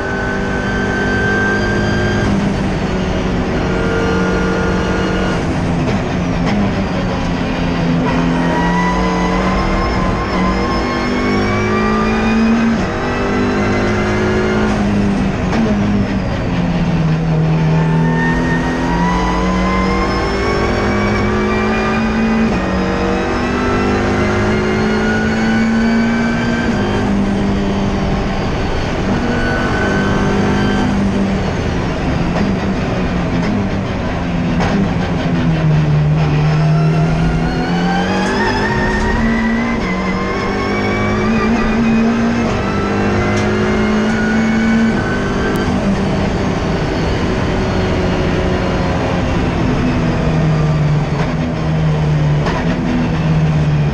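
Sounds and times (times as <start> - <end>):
race car engine revving: 0.0 - 53.9.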